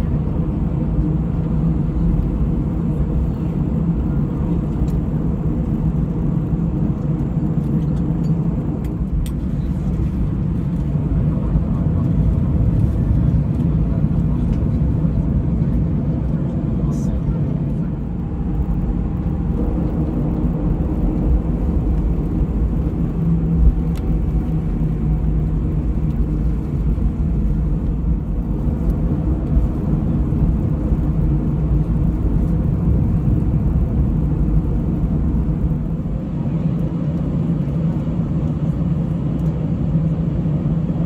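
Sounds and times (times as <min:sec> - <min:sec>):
aircraft engine rumble in cabin: 0:00.0 - 0:41.0.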